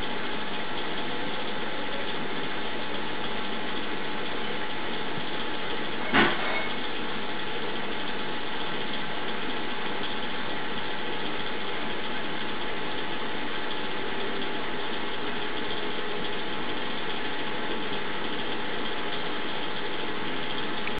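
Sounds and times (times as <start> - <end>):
mechanical hum with hiss: 0.0 - 20.9.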